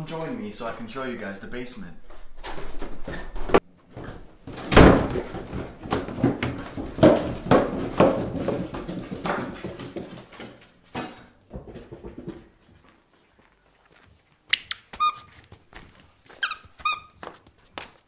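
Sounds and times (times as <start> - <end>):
footsteps going down stairs: 2.0 - 18.0.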